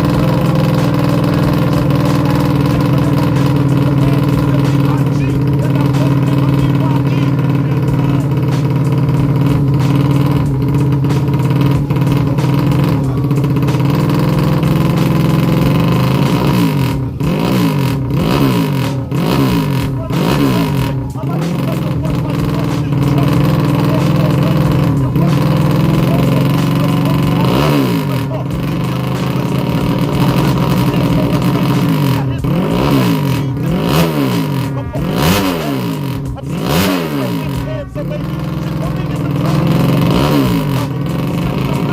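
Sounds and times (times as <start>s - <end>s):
motorcycle idling and revving: 0.0s - 41.9s.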